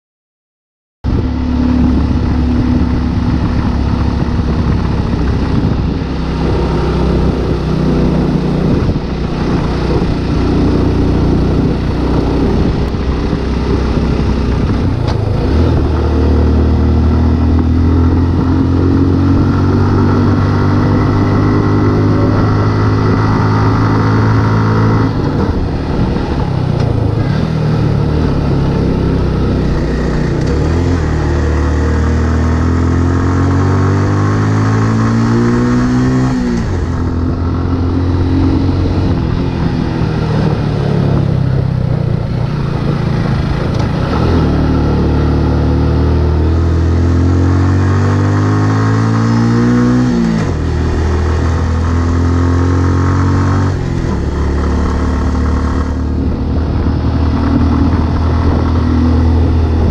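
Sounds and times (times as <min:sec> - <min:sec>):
motorcycle engine accelerating: 0:01.0 - 0:59.9.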